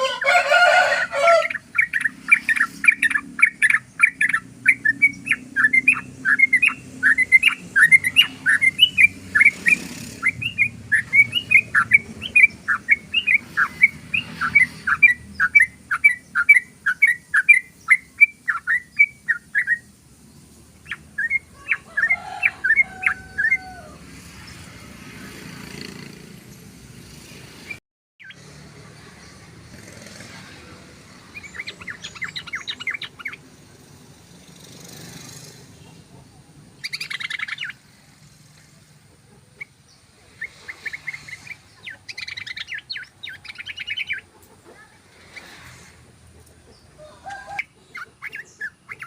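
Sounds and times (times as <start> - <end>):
bird chirping song: 1.2 - 49.0.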